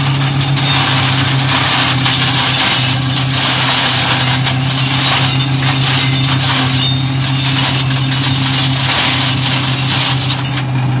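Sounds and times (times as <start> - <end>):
sharp clatters: 0.0 - 10.7
flail shredder chopping canes: 0.0 - 10.8
tractor engine running under load: 0.0 - 11.0.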